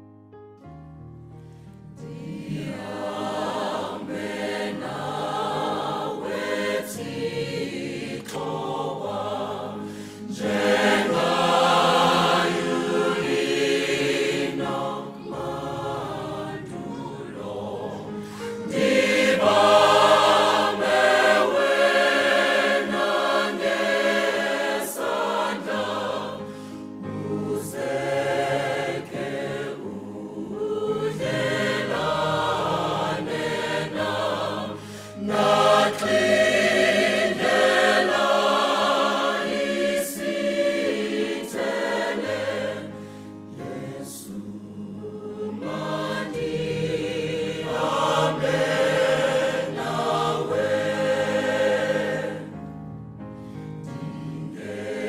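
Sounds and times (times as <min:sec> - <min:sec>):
choir singing a hymn: 0:01.9 - 0:55.0.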